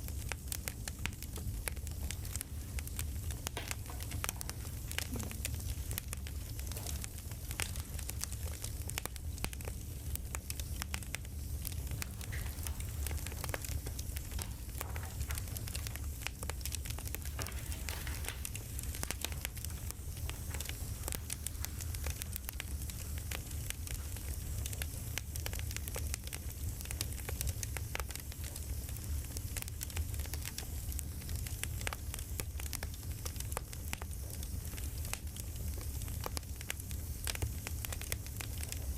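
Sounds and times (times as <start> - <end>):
campfire pops and snaps: 0.0 - 38.9
campfire rumble: 0.0 - 38.9.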